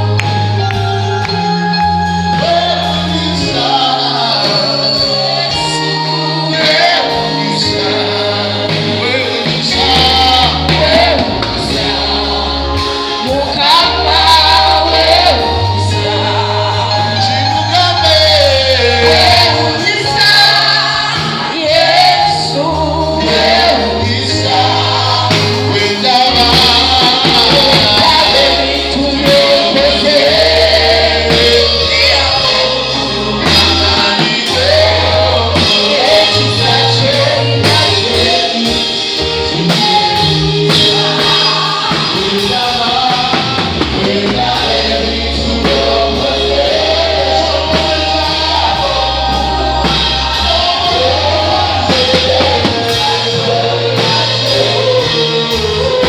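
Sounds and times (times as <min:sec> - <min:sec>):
backing voices singing: 0:00.0 - 0:56.0
gospel music with sustained bass: 0:00.0 - 0:56.0
man singing into microphone: 0:02.3 - 0:56.0.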